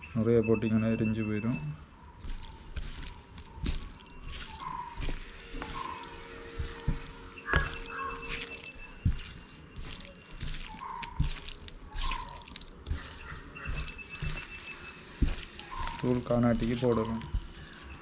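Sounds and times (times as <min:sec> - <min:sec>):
hand mixing raw chicken squelching: 0:01.0 - 0:18.0.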